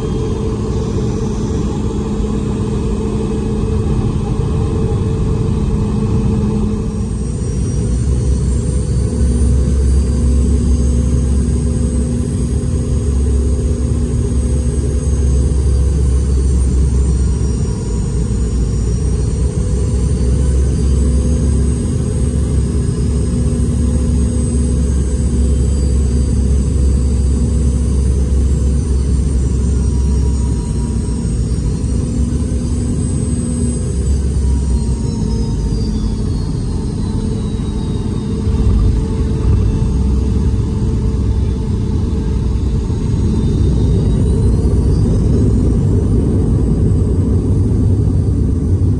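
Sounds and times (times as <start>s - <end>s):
high engine whine: 0.0s - 48.9s
jet engine cabin rumble: 0.0s - 48.9s.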